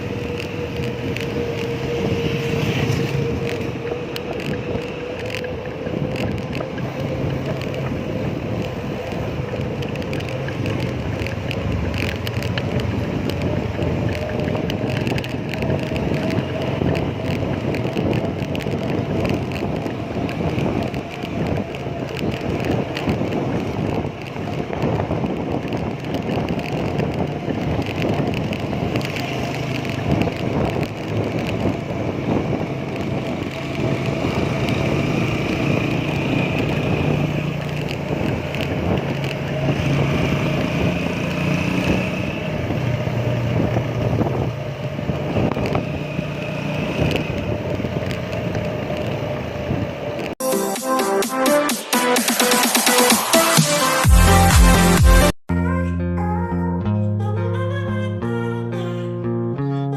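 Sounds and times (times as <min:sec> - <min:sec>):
passing motor vehicles humming: 0:00.0 - 0:50.4
road and traffic noise: 0:00.0 - 0:55.7.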